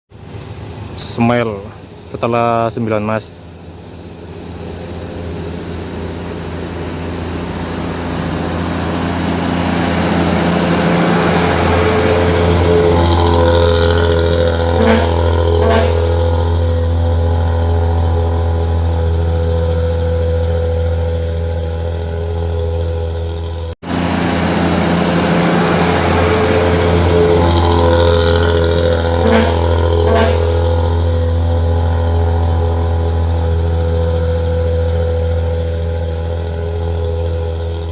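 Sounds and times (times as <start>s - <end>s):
diesel bus engine rumbling: 0.1s - 37.9s.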